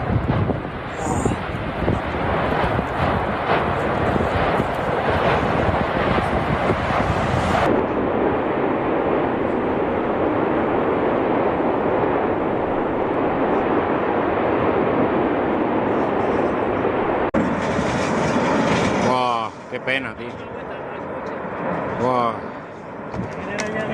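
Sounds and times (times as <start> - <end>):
roar of erupting volcano: 0.0 - 19.7.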